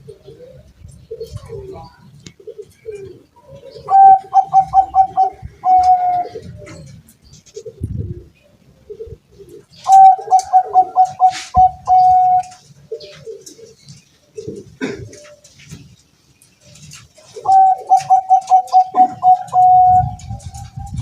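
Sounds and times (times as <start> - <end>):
dove cooing: 0.0 - 15.9, 16.6 - 21.0.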